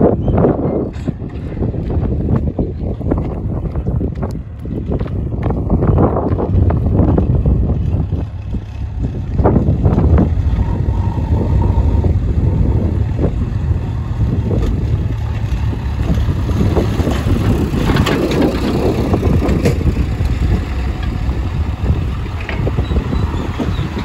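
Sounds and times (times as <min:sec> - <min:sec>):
heavy diesel engine rumbling: 0:00.0 - 0:24.0
clanks and rattles: 0:00.1 - 0:10.4, 0:14.0 - 0:24.0.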